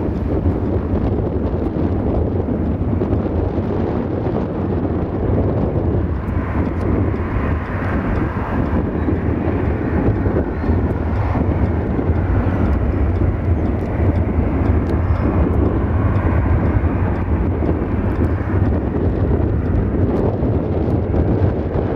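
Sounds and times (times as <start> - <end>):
jet engines rumbling: 0.0 - 21.9
wind buffeting microphone: 0.0 - 21.9.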